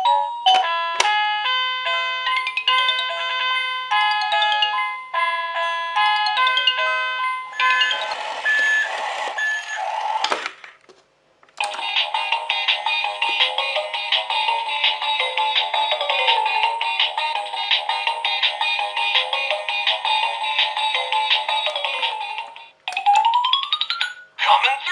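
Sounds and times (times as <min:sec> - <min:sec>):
electronic toy beeping melody: 0:00.1 - 0:10.3, 0:11.6 - 0:24.4.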